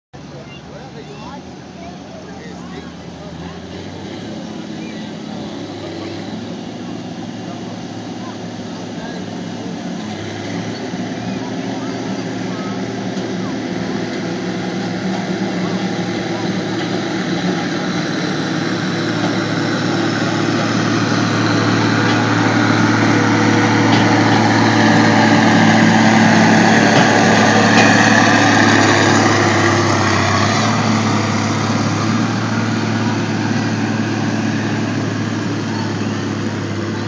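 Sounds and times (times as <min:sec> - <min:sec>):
truck engine running under load: 0:00.2 - 0:37.0.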